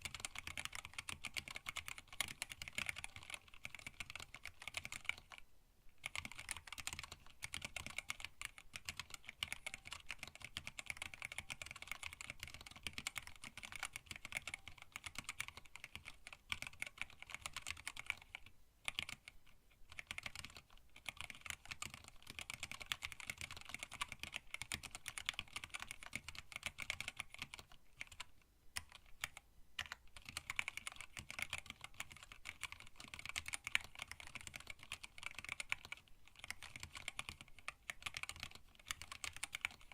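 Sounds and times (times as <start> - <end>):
fast typing on mechanical keyboard: 0.0 - 5.4, 6.0 - 39.9.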